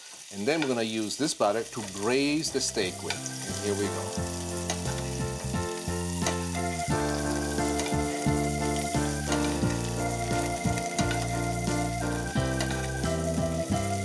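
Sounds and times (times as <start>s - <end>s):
steak sizzling in frying pan: 0.0s - 14.0s
background music with sustained chords: 2.1s - 14.0s.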